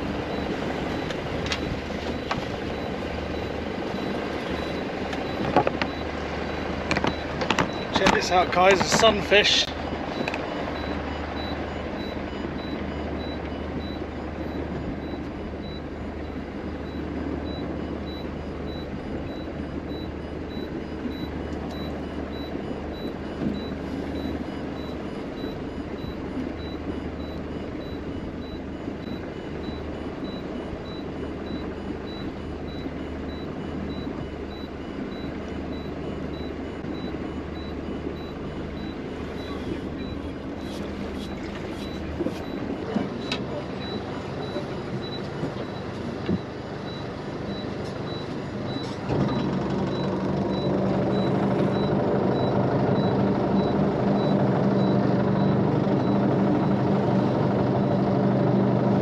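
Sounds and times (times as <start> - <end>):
boat engine running: 0.0 - 59.0
faint high beeps: 0.2 - 49.0.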